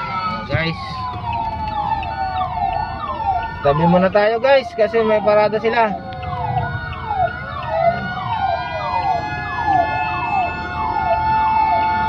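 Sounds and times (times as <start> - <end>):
fire truck sirens: 0.0 - 12.0.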